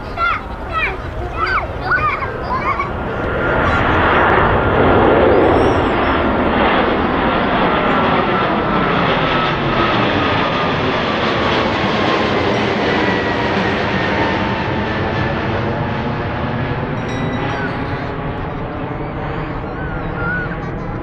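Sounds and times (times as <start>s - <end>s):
jet engines rushing and whining: 0.0s - 21.0s.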